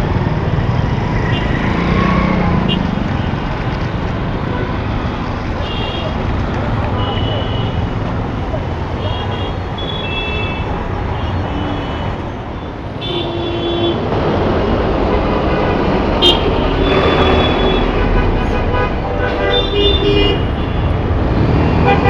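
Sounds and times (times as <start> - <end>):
dense road traffic: 0.0 - 22.0.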